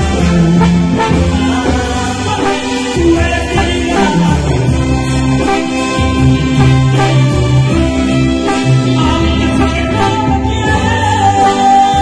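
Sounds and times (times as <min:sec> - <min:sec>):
live band music: 0:00.0 - 0:12.0
strong bass line: 0:00.0 - 0:12.0.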